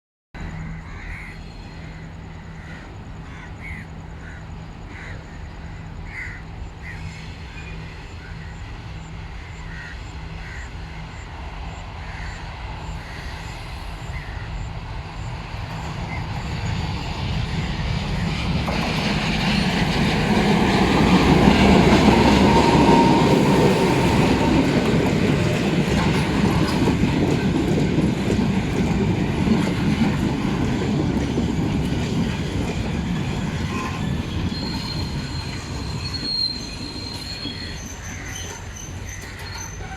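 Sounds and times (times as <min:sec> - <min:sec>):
high train squeal: 0:00.4 - 0:39.9
train rumbling along track: 0:00.4 - 0:39.9.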